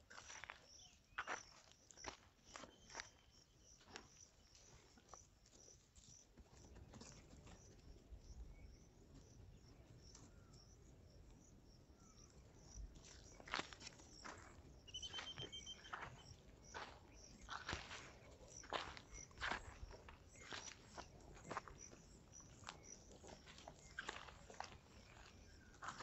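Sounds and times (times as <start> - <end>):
faint insects chirping: 0.0 - 26.0.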